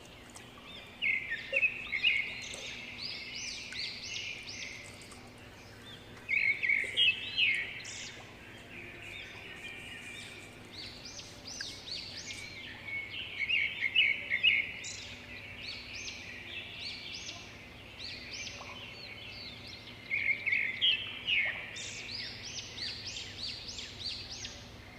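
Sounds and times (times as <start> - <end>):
birds chirping: 0.0 - 24.8.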